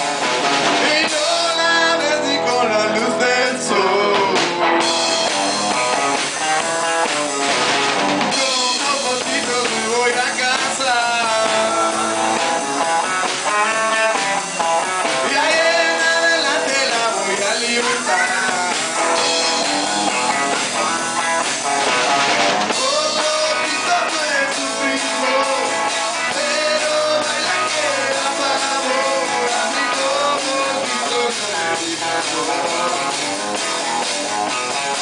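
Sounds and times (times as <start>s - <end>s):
person singing: 0.0s - 5.1s, 8.2s - 21.3s, 22.7s - 33.6s
drum kit: 0.0s - 35.0s
guitar: 0.0s - 35.0s.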